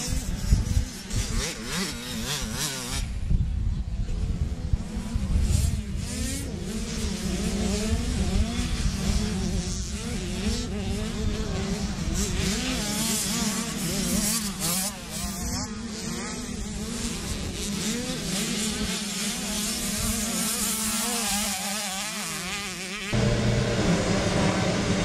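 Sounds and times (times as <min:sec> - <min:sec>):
loud steady engine drone: 0:00.0 - 0:21.1, 0:23.1 - 0:25.0
dirt bike engines revving: 0:00.0 - 0:25.0.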